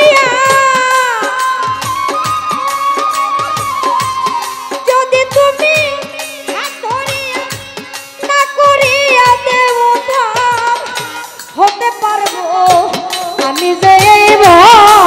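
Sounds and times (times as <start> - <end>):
accompanying instruments: 0.0 - 15.0
steady drum beat: 0.0 - 15.0
woman singing with vibrato: 0.0 - 15.0.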